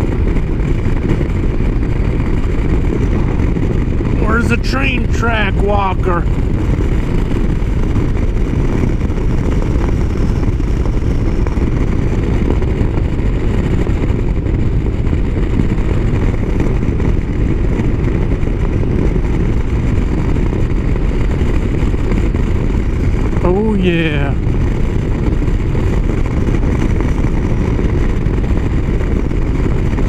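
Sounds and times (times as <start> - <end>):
motorcycle engine drone: 0.0 - 30.0
wind rushing on microphone: 0.0 - 30.0.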